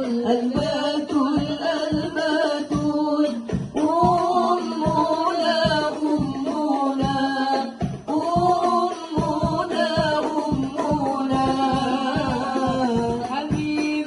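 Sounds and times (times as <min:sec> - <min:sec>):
devotional song singing: 0:00.0 - 0:14.0
frame drums beating: 0:00.0 - 0:14.0.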